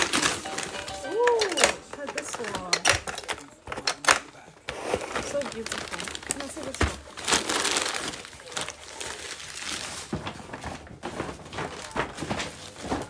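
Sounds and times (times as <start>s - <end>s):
tissue paper rustling and crinkling: 0.0s - 2.6s, 4.8s - 13.0s.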